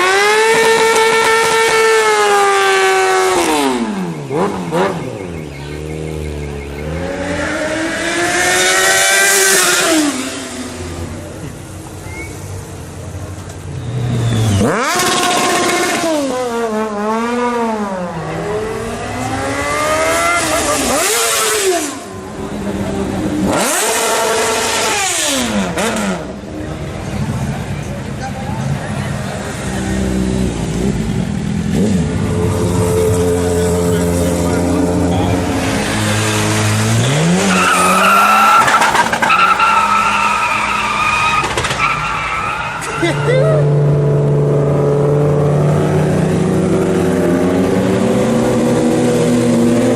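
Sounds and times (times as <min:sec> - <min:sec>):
motorcycle engine accelerating: 0:00.0 - 0:11.4, 0:14.0 - 0:27.6, 0:29.4 - 0:38.4, 0:43.6 - 0:49.9.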